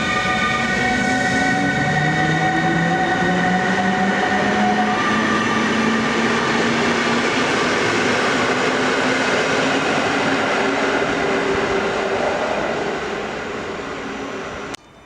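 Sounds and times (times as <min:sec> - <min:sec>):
electric locomotive drive whining: 0:00.0 - 0:15.0
train rumbling on rails: 0:00.0 - 0:15.0.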